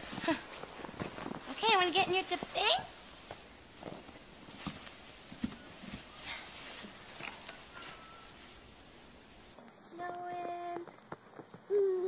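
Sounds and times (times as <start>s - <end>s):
faint rustle: 0.0s - 12.0s.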